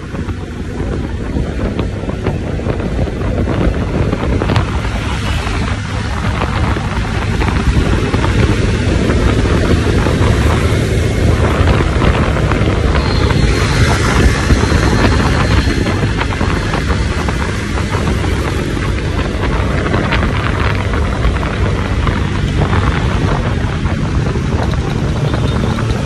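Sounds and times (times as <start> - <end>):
motorcycle engine: 0.0 - 26.0
road noise: 0.0 - 26.0
wind rushing over microphone: 0.0 - 26.0.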